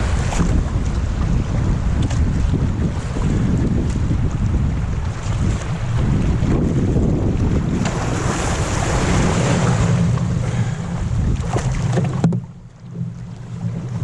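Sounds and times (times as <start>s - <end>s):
rushing water: 0.0s - 14.0s
wind buffeting microphone: 0.0s - 14.0s.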